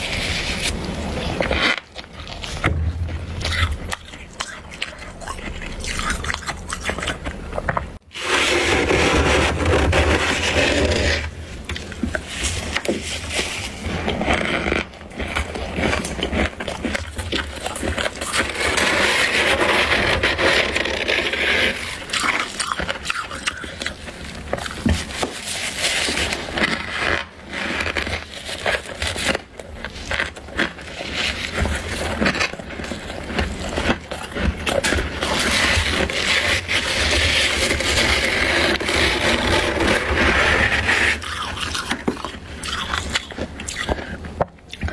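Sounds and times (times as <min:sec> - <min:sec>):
hands scraping crunchy frost: 0:00.0 - 0:44.9.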